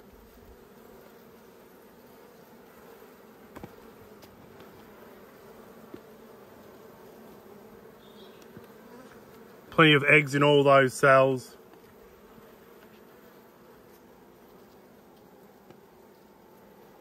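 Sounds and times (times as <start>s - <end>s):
honeybees humming: 0.0s - 17.0s.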